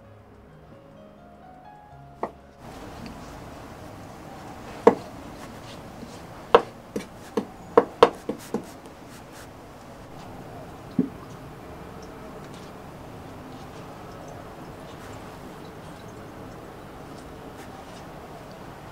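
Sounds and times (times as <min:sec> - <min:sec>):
soft background music: 0:00.0 - 0:18.9.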